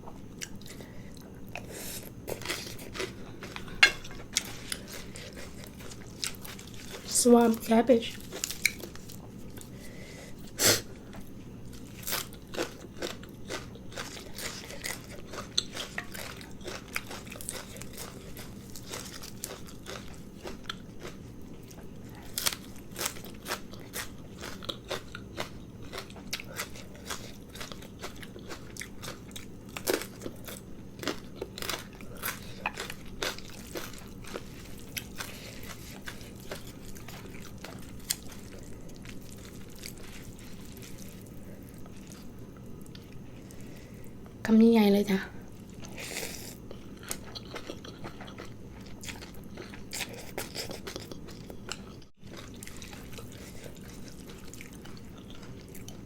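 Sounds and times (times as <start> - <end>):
person chewing crunchy food: 0.0 - 44.3, 45.4 - 56.0.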